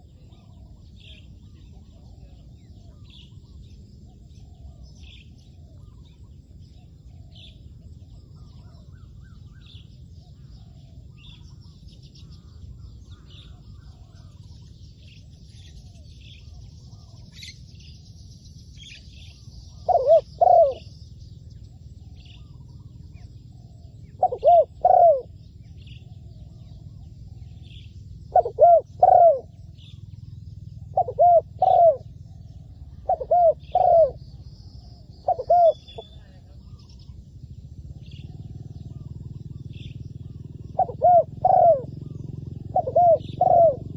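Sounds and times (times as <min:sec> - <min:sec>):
dove cooing: 0:00.0 - 0:17.7, 0:18.9 - 0:43.9
small birds chirping: 0:00.0 - 0:43.9.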